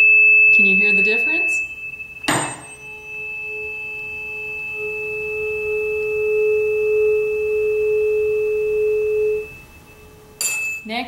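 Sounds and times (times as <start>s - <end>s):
tube air column resonating: 0.0s - 11.0s
tuning fork pure tone: 0.0s - 11.0s.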